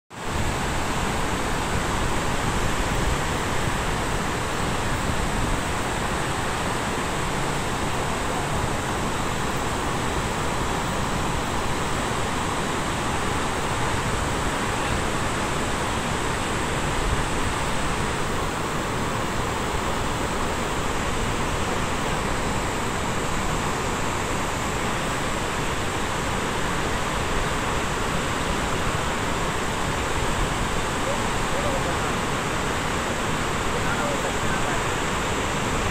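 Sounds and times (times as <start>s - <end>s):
water rushing down spillway: 0.1s - 35.9s.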